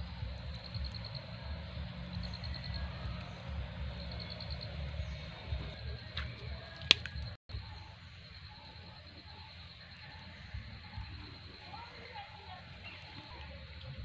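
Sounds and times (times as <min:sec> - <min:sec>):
low rumble on microphone: 0:00.0 - 0:14.0.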